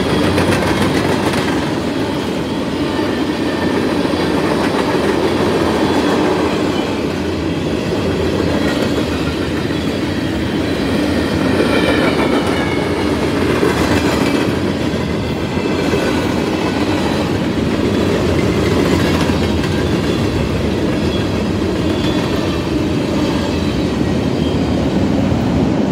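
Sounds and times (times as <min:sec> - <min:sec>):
wheels clacking over rail joints: 0:00.0 - 0:24.1
freight train rolling past: 0:00.0 - 0:25.9.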